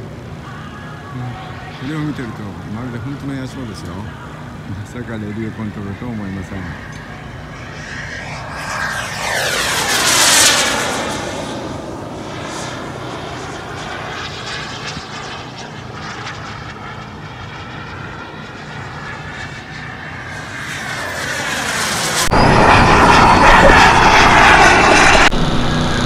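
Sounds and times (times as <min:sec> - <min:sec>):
model airplane engine passing: 0:00.0 - 0:26.0.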